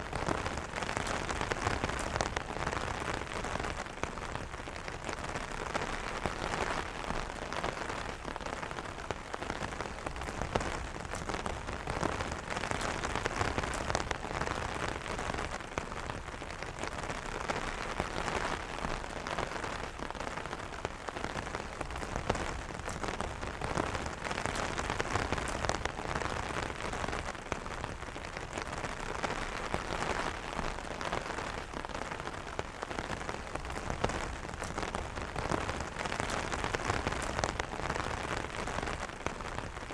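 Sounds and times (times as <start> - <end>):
rain pattering on umbrella: 0.0 - 39.9.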